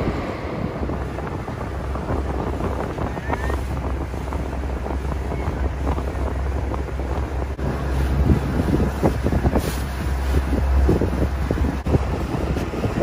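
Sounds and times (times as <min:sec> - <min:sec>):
ferry engine drone: 0:00.0 - 0:13.0
wind buffeting the microphone: 0:00.0 - 0:13.0.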